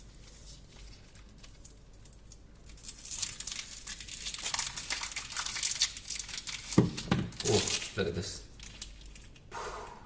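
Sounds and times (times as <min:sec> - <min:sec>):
chocolate wrappers crinkling: 0:00.0 - 0:09.5.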